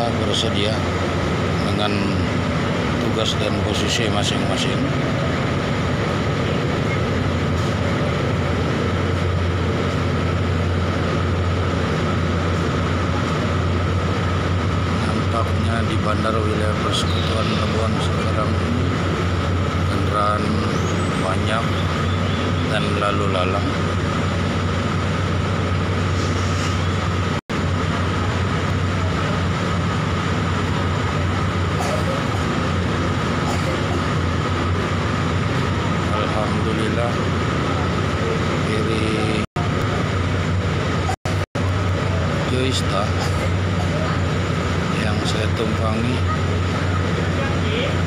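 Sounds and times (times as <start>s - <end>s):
ship engines droning: 0.0s - 48.0s
thin steady whine: 0.0s - 48.0s.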